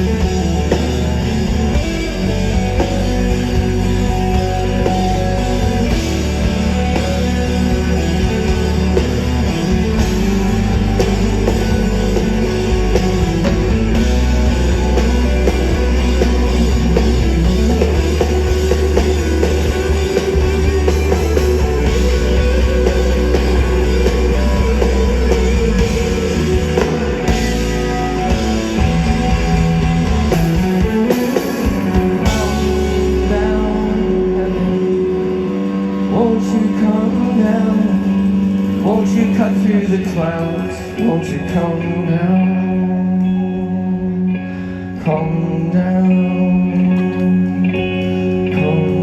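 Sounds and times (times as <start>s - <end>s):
drum kit: 0.0s - 41.0s
bass guitar: 0.0s - 49.0s
electric guitars: 0.0s - 49.0s.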